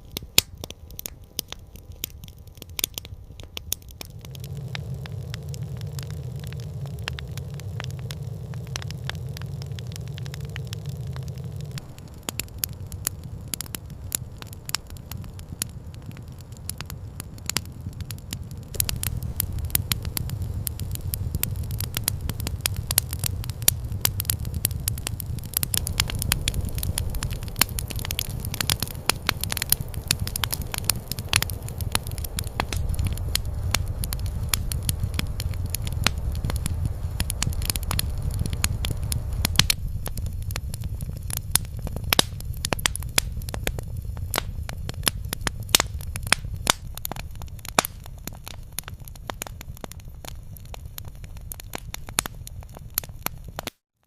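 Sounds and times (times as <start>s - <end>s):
steady low rumble: 0.0s - 53.0s
campfire crackling and popping: 0.0s - 53.8s.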